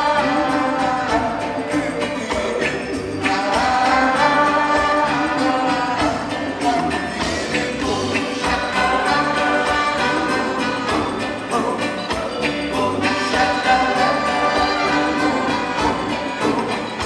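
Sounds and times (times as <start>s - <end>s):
electric guitar: 0.0s - 17.0s
saxophones and trumpet: 0.0s - 17.0s.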